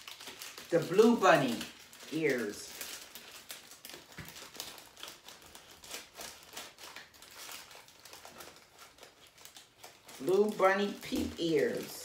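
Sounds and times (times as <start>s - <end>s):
plastic packaging crackling: 0.0s - 12.0s.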